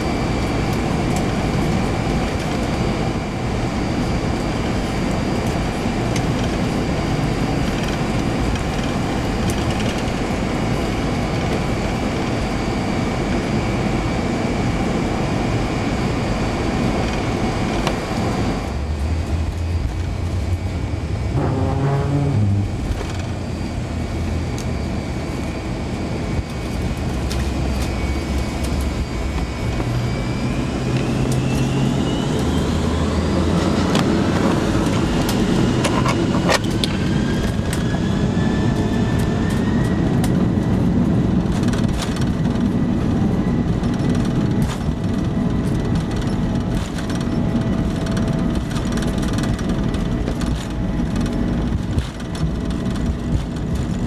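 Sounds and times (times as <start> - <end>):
jet engines from inside cabin: 0.0 - 54.0.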